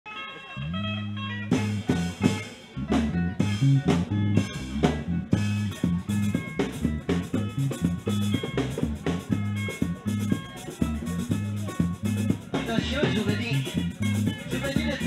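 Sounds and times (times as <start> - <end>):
electric bass guitar: 0.1 - 15.0
guitar: 0.1 - 15.0
drum kit steady beat: 1.4 - 15.0.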